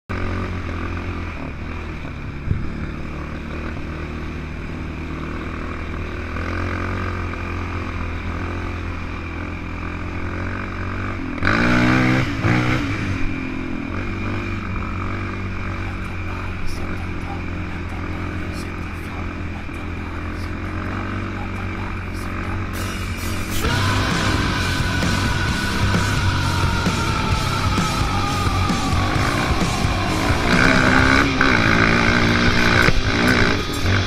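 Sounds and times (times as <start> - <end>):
vehicle engine running and revving: 0.0 - 34.0.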